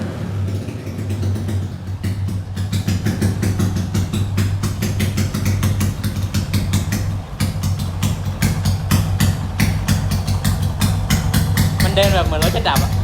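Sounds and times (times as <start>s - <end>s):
motorcycle idling rough: 0.0s - 13.0s
sharp exhaust cracks: 0.0s - 13.0s.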